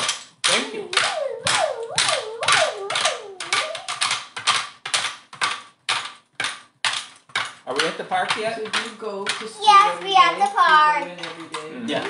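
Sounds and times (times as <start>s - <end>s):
wooden doll clacking on board: 0.0s - 11.7s.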